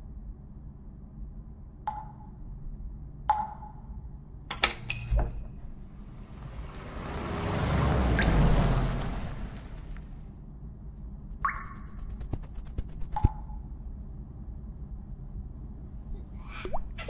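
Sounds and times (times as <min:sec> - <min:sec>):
low rumbling ambience: 0:00.0 - 0:17.0.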